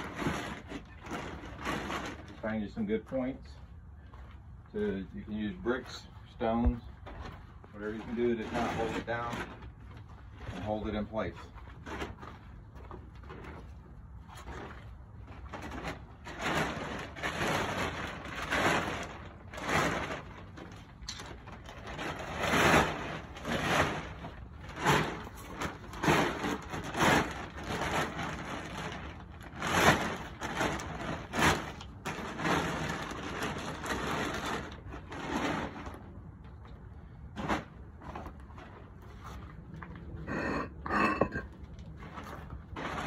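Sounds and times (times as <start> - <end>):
plastic tarp rustling and crinkling: 0.0 - 3.6, 4.7 - 40.6, 41.7 - 43.0.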